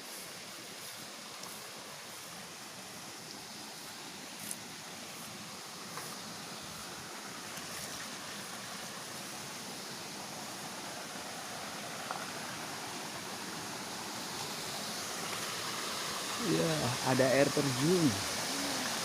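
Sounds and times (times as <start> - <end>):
flowing river water: 0.0 - 19.0
small waterfall: 0.0 - 19.0.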